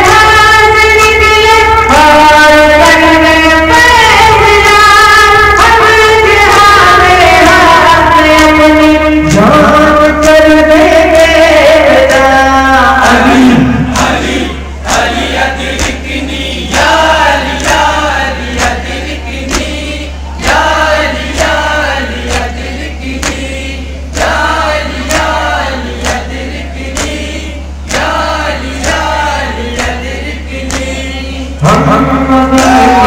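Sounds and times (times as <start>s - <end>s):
rhythmic chest-beating: 0.0s - 33.0s
men chanting a lament: 5.6s - 33.0s.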